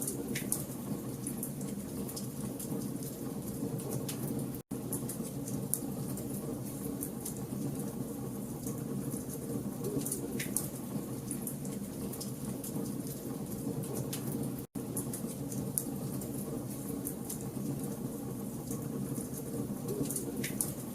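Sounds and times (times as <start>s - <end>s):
low rumble of flames: 0.0s - 20.9s
wood fire crackling and popping: 0.0s - 20.9s.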